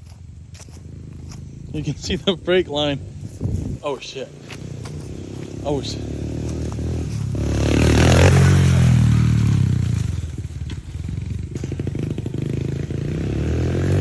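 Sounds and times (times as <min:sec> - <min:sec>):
motorbike engine revving and idling: 0:00.0 - 0:14.0.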